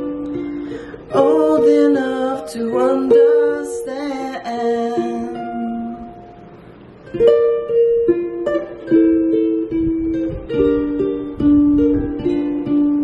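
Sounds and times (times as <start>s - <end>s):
ukulele chords: 0.0s - 13.0s.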